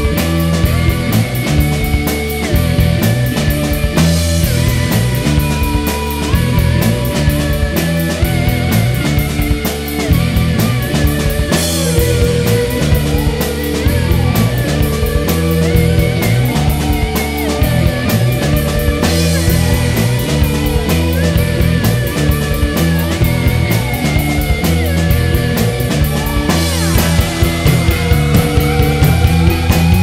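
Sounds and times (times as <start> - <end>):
drum beat: 0.0 - 30.0
guitar: 0.0 - 30.0
rock music: 0.0 - 30.0.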